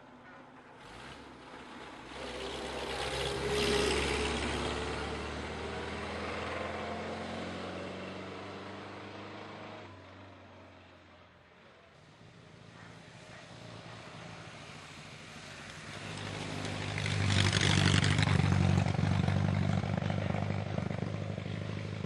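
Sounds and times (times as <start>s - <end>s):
racing car driving past: 0.8s - 10.4s, 11.8s - 22.0s.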